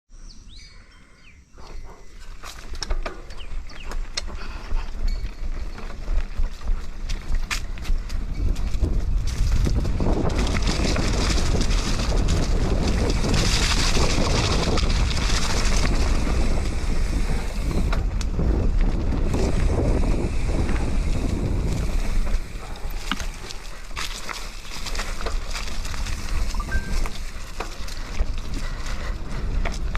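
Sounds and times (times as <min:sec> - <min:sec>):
bike clicks and rattles: 0:01.6 - 0:29.9
wind buffeting microphone: 0:01.6 - 0:29.9.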